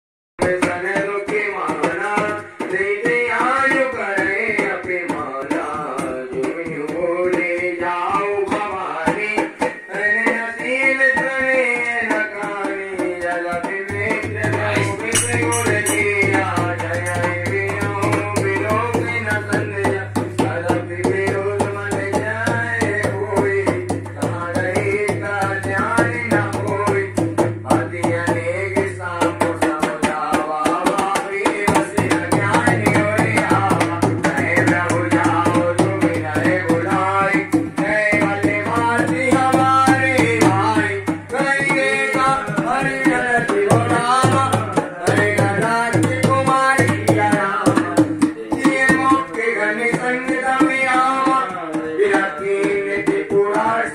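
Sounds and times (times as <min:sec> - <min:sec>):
hand drum beat: 0:00.4 - 0:53.9
man singing devotional song: 0:00.4 - 0:53.9.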